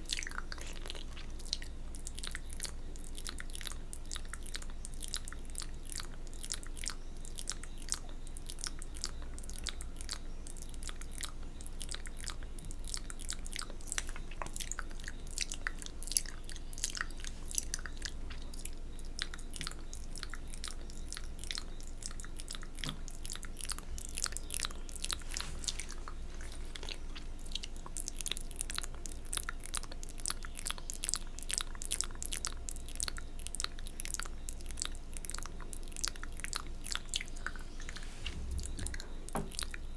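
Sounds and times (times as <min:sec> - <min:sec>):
wet mouth licking sounds: 0:00.0 - 0:39.9.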